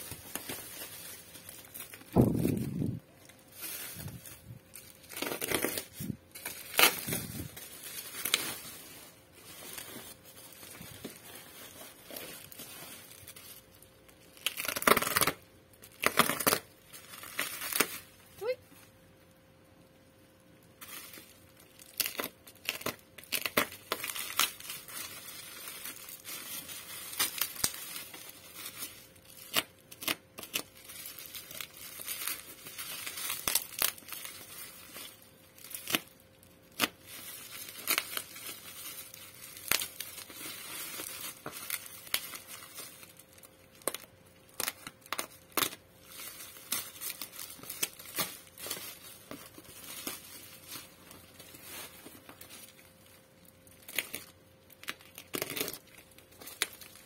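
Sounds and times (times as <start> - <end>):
plastic wrap crinkling and tearing: 0.0 - 18.9, 20.3 - 57.0.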